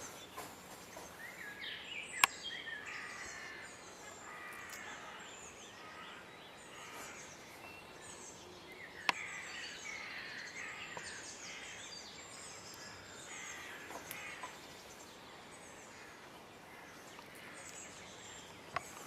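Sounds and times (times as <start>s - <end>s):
birds chirping: 0.0s - 19.0s
outdoor hiss: 0.0s - 19.0s.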